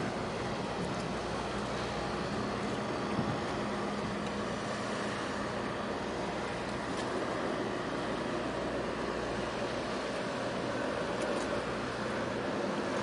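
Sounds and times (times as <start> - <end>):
boat diesel engine drone: 0.0 - 13.0
water noise: 0.0 - 13.0
wind: 0.0 - 13.0.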